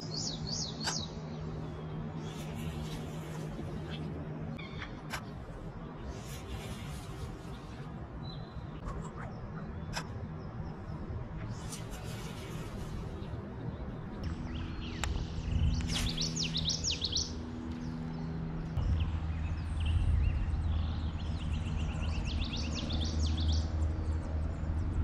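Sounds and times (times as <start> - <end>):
songbird chirping: 0.0 - 23.8
steady low hum: 0.0 - 25.0.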